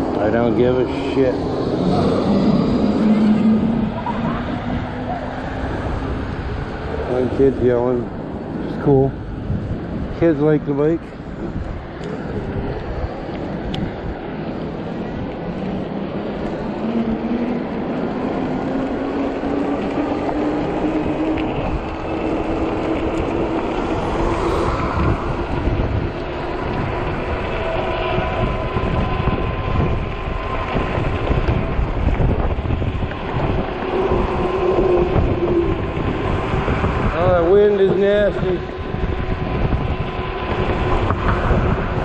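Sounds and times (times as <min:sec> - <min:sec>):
e-bike drive whine: 0:00.0 - 0:42.0
wind buffeting microphone: 0:00.0 - 0:42.0.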